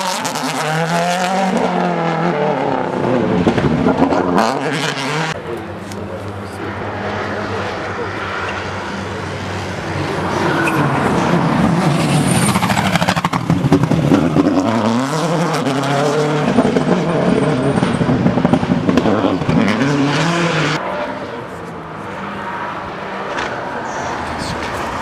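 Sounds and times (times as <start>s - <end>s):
rally car engine passing: 0.0s - 25.0s.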